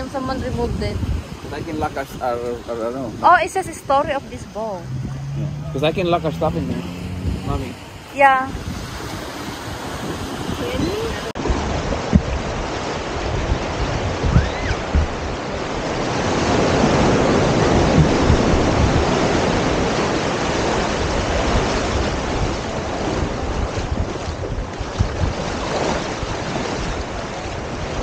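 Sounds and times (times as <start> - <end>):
surf washing onto beach: 0.0 - 28.0
wind buffeting microphone: 0.0 - 28.0.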